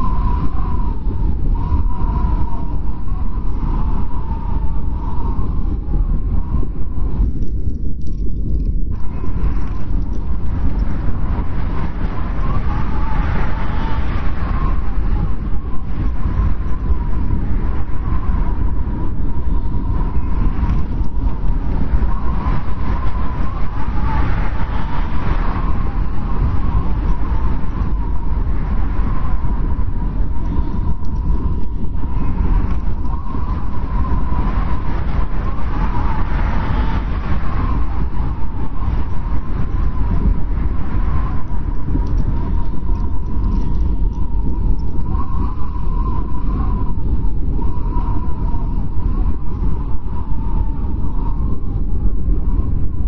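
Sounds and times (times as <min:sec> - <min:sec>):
blizzard wind blowing hard: 0:00.0 - 0:53.0
high wavering wind whistle: 0:00.0 - 0:53.0.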